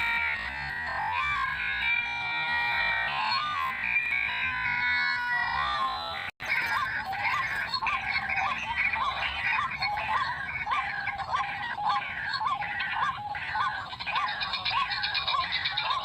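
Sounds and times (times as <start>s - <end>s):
waterhen calling: 0.0s - 16.0s.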